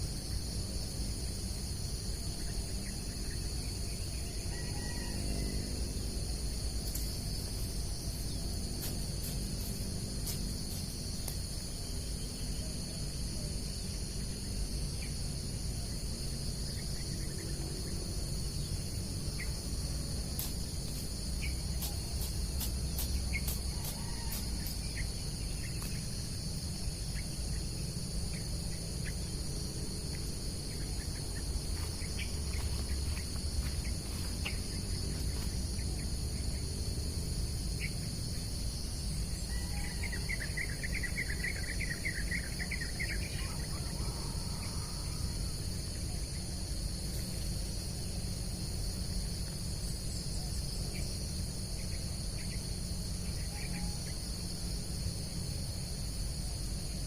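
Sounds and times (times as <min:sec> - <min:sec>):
crickets and insects chorus: 0:00.0 - 0:57.0.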